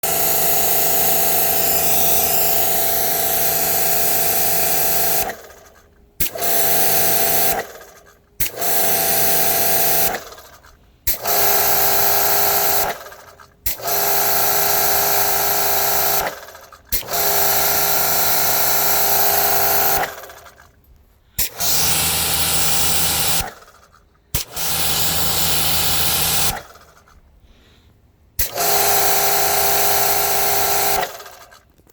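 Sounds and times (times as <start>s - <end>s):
pressure washer grinding: 0.0s - 20.7s, 21.4s - 27.2s, 28.4s - 31.8s.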